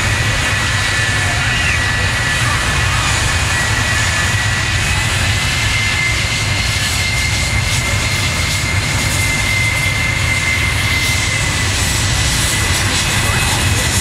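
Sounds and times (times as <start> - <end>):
jet engines rumbling with high whine: 0.0 - 14.0.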